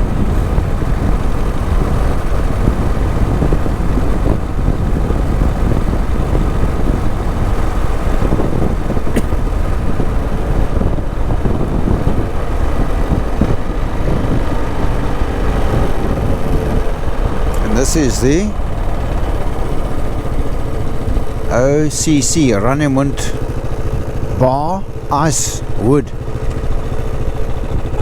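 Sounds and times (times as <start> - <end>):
motorcycle engine and road noise: 0.0 - 28.0
wind buffeting microphone: 0.0 - 28.0.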